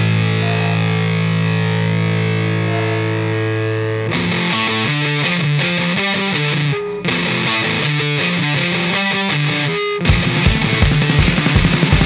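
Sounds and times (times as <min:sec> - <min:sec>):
distorted electric guitar: 0:00.0 - 0:12.0.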